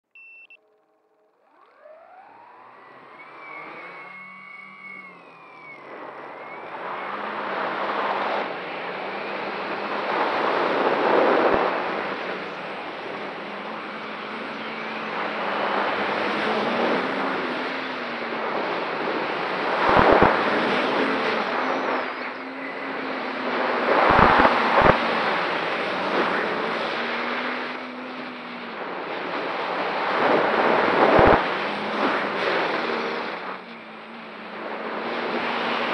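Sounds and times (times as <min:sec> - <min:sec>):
drone motors whistling: 0:00.1 - 0:35.9
propeller and wind rush: 0:01.5 - 0:35.9
air buffeting the microphone: 0:04.1 - 0:35.9.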